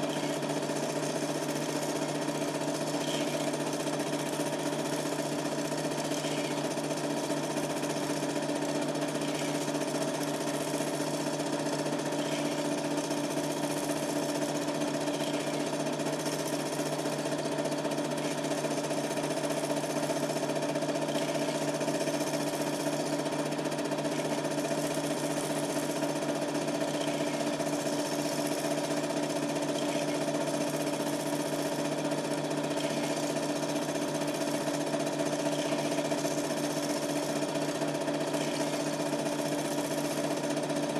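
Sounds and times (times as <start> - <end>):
film projector running: 0.0 - 40.9.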